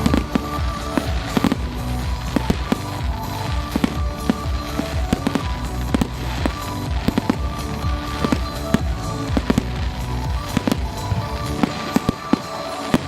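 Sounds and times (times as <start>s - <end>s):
fireworks bangs and pops: 0.0s - 13.0s
music playing: 0.0s - 13.0s.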